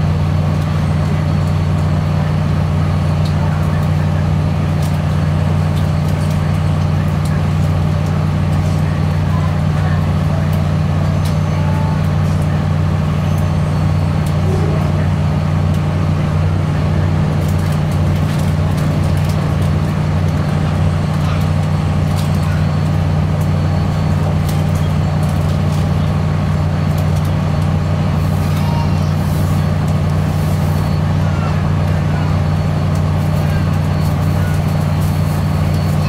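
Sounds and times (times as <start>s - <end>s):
train cabin drone: 0.0s - 36.0s.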